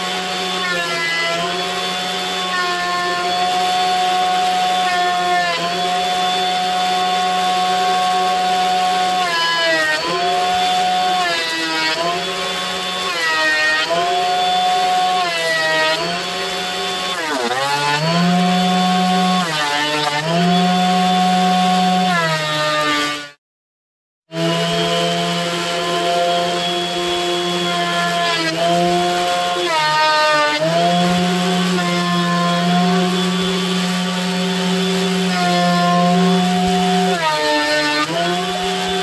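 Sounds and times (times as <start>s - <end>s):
thickness planer motor whine: 0.0s - 23.3s, 24.3s - 39.0s.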